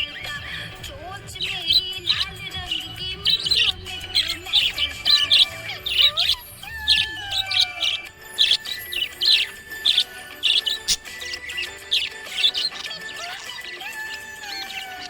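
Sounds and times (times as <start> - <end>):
background music: 0.0 - 15.0
budgerigar chirping: 0.0 - 15.0.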